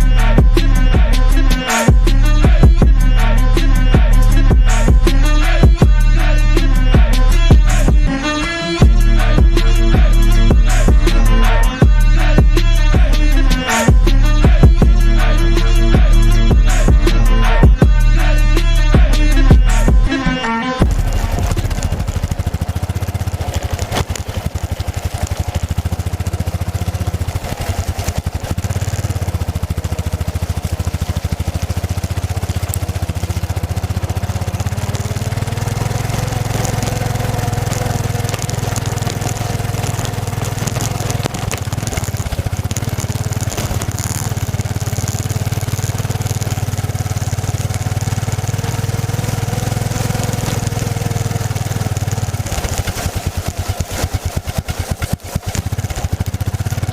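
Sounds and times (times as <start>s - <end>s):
motorcycle engine running: 0.0s - 56.9s
road hiss: 0.0s - 56.9s
wind: 0.0s - 56.9s.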